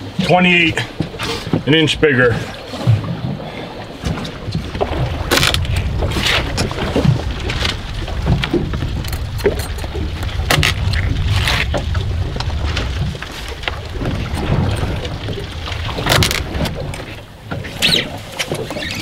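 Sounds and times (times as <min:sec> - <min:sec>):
knocks and splashes: 0:00.0 - 0:19.0
sea water washing around boat: 0:00.0 - 0:19.0
wind buffeting microphone: 0:00.0 - 0:19.0.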